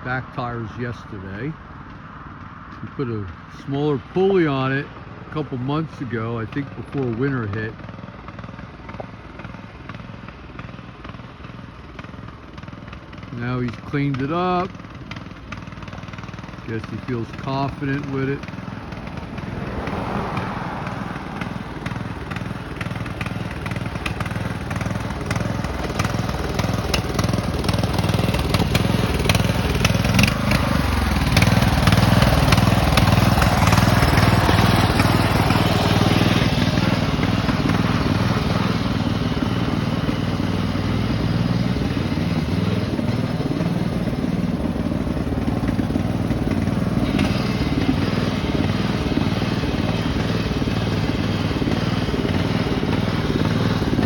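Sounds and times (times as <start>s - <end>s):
lawn mower engine running hard: 0.0s - 54.0s.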